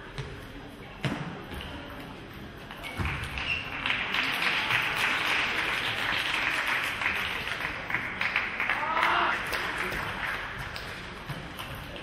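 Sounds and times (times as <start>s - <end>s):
dense clatter of hall noise: 0.0s - 12.0s.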